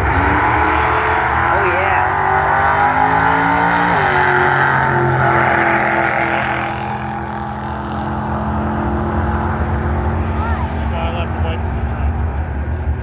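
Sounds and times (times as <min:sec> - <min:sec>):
racing truck engine: 0:00.0 - 0:13.0.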